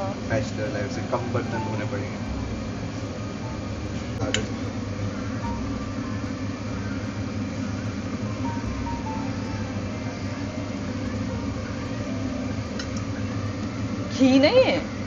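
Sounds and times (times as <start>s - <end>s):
soft background music: 0.0s - 15.0s
steady low hum: 0.0s - 15.0s.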